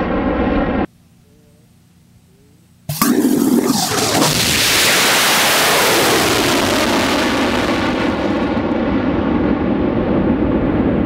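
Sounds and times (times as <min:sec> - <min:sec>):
rocket engine roaring: 0:00.0 - 0:00.9, 0:02.9 - 0:11.0.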